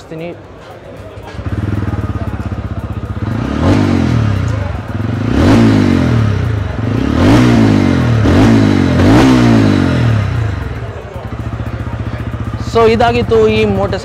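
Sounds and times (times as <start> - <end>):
motorcycle engine idling and revving: 0.8 - 14.0.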